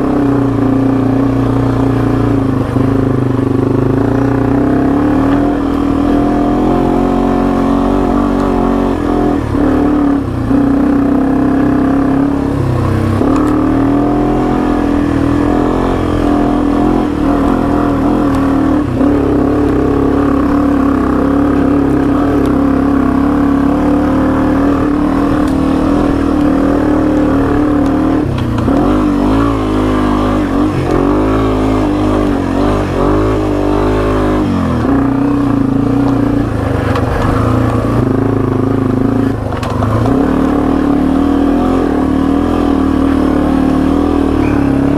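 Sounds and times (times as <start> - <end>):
motorcycle engine under load: 0.0 - 44.9.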